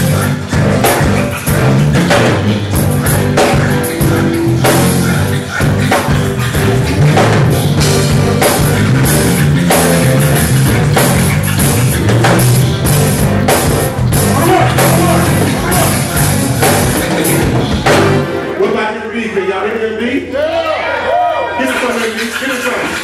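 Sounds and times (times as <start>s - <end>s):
heavy drum beat: 0.0s - 18.4s
sustained bass line: 0.0s - 20.0s.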